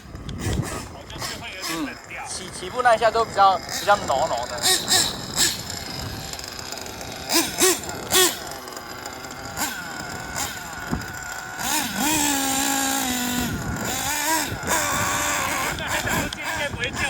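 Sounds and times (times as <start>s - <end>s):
model car engine revving: 0.0s - 17.0s.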